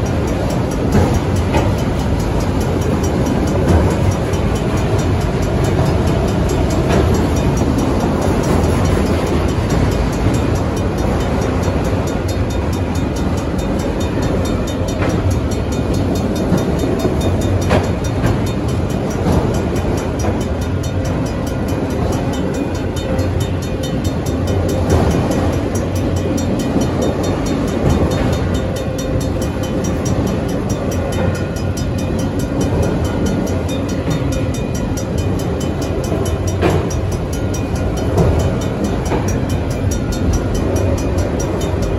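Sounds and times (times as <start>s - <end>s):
crossing bells ringing: 0.0s - 41.9s
train clanks: 0.0s - 41.9s
train wheels clacking on rails: 0.0s - 41.9s.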